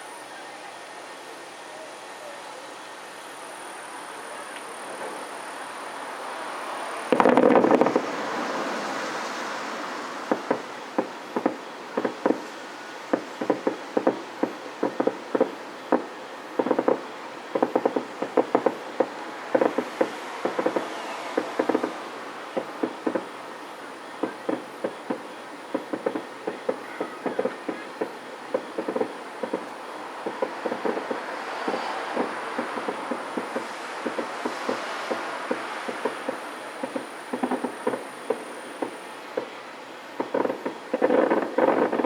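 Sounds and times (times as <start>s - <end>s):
distant fireworks popping and banging: 4.4s - 42.0s.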